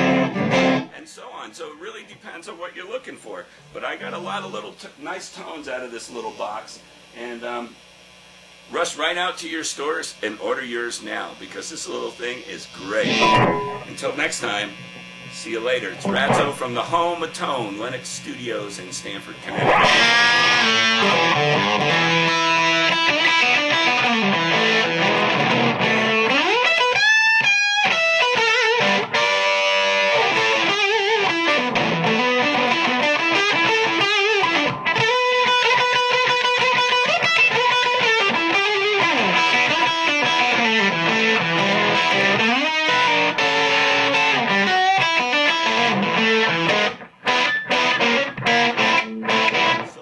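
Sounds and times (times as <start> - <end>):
electric guitar lead licks: 0.0 - 0.9, 3.5 - 8.0, 10.8 - 50.0.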